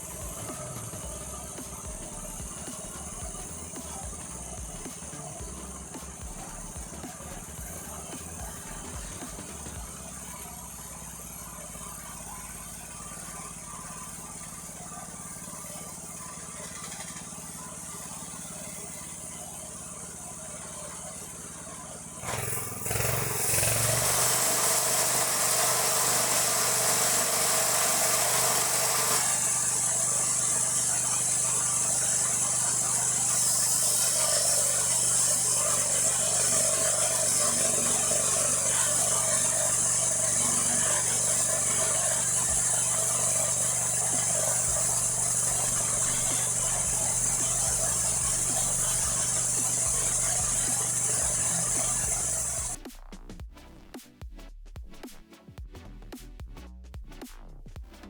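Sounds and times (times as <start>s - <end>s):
sawmill engine running: 0.0s - 52.8s.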